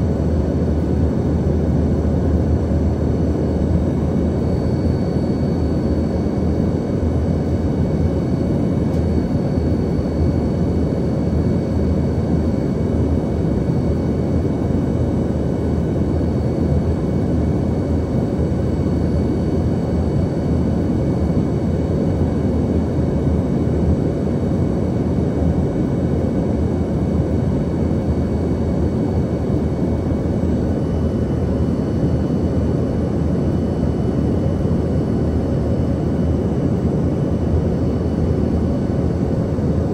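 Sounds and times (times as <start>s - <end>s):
jet engines roaring in cabin: 0.0s - 39.9s.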